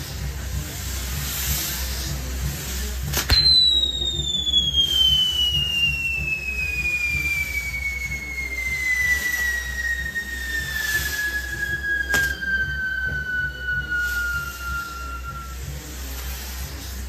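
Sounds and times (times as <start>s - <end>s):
hissing firework sparks: 0.0s - 17.0s
firework bang: 1.1s - 17.0s
descending firework whistle: 1.2s - 17.0s.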